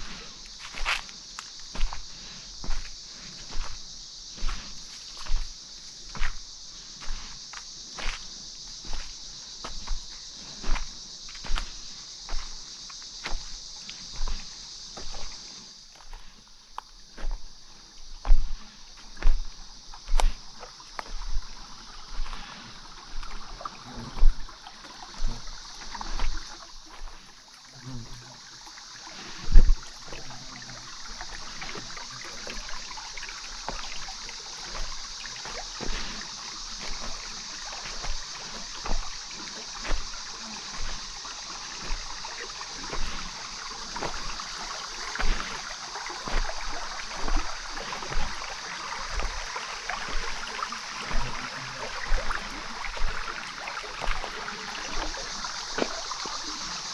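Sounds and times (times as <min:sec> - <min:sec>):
footsteps on forest trail: 0:00.0 - 0:56.9
steady high hiss: 0:00.0 - 0:56.9.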